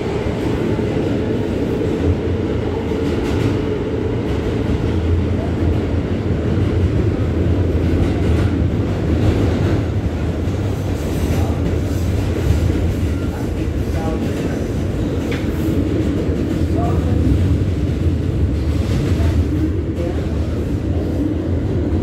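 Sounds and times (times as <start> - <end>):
subway wheels rumbling on track: 0.0 - 22.0.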